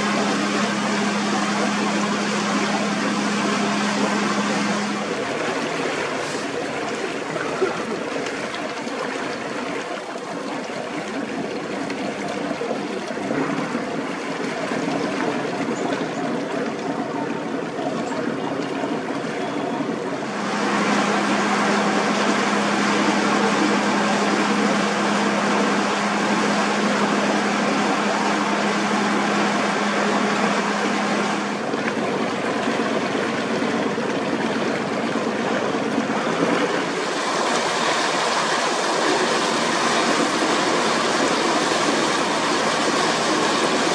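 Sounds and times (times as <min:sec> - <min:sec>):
boat motor running: 0:00.0 - 0:43.9
water rushing along hull: 0:00.0 - 0:43.9.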